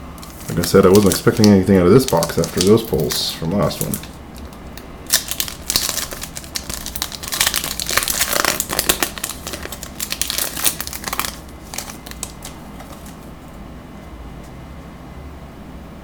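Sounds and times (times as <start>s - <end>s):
wrapper crinkling: 0.1s - 13.5s.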